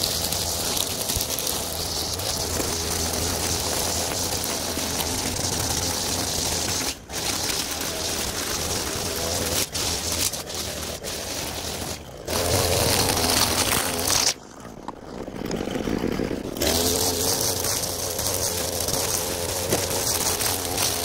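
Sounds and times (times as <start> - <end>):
string trimmer cutting grass: 0.0 - 21.0.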